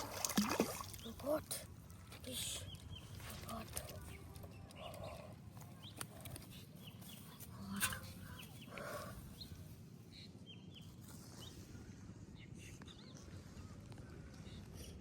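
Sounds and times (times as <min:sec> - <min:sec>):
birds chirping: 0:00.8 - 0:13.8.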